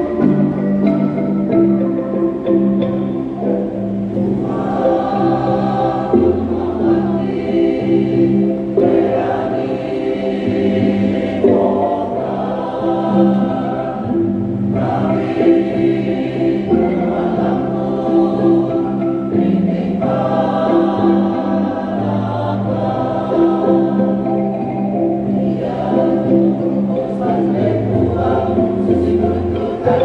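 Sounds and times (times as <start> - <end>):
choir singing in harmony: 0.0 - 30.0
wooden xylophones playing: 0.0 - 30.0.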